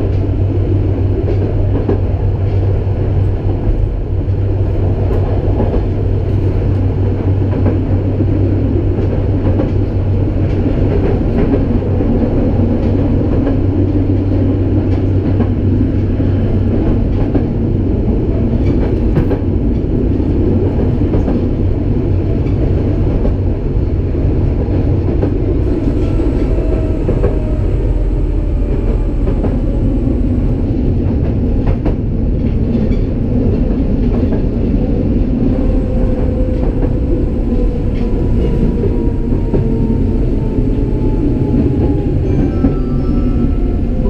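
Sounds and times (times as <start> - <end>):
tram wheels rumbling on rail: 0.0 - 44.0.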